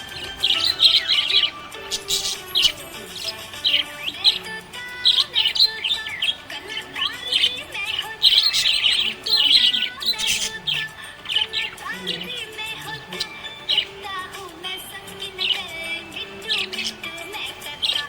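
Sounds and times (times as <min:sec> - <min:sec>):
budgerigar chirping and chattering: 0:00.0 - 0:18.0.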